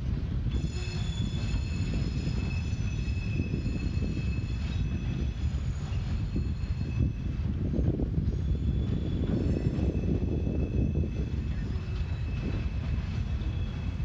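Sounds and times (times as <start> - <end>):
freight train wheels rumbling: 0.0 - 14.0
high-pitched wheel squeal: 0.5 - 14.0.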